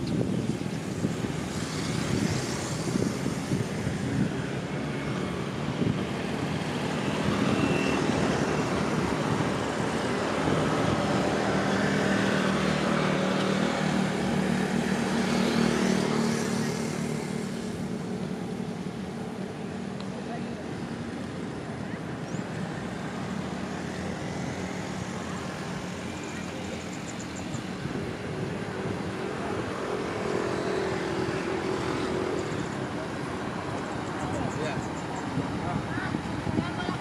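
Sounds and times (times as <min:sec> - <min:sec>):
traffic noise: 0:00.0 - 0:37.0
vehicle engine hum: 0:00.0 - 0:37.0.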